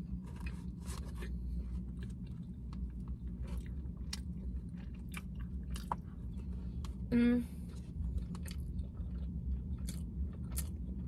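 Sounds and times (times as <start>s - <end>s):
steady low hum: 0.0s - 11.0s
chewing with wet smacking: 1.7s - 11.0s.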